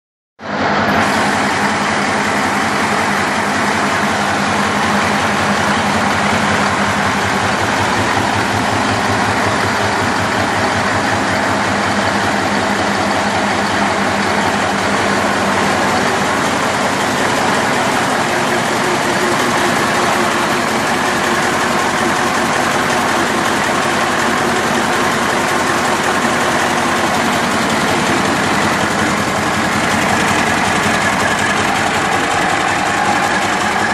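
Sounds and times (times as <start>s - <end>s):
diesel engine running: 0.5s - 33.9s.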